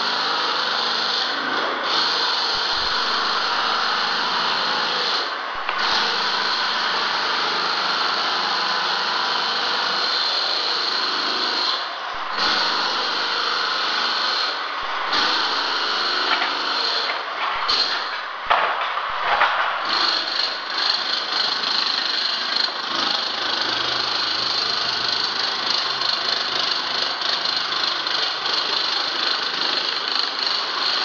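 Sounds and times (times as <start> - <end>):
power tool running: 0.0 - 31.0.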